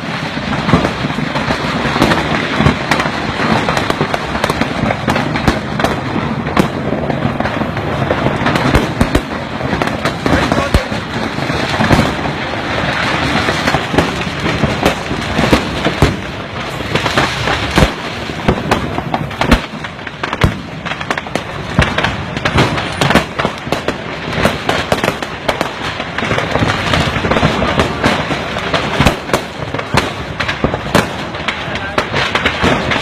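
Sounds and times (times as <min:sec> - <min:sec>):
fireworks cracks and pops: 0:00.0 - 0:33.0
steady crackling din: 0:00.0 - 0:33.0.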